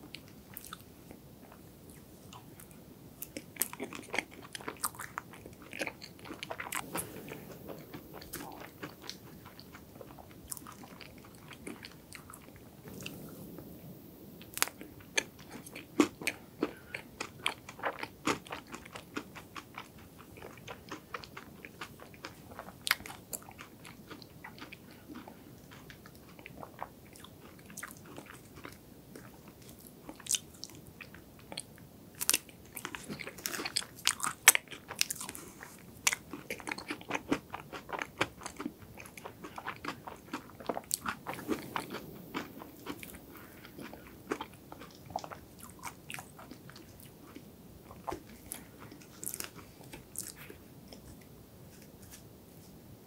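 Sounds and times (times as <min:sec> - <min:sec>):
chewing with crunches: 0:00.0 - 0:13.7, 0:14.4 - 0:52.2.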